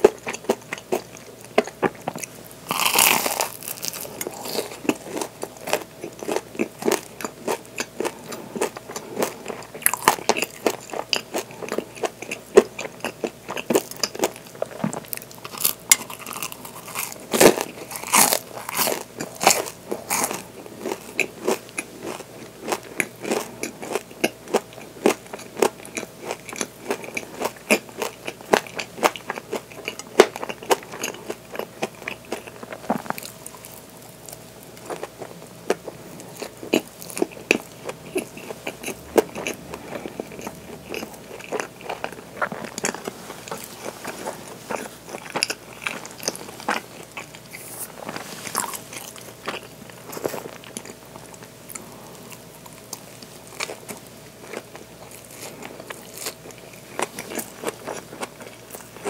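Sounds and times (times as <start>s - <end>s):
crunchy waffle chewing: 0.0s - 59.0s.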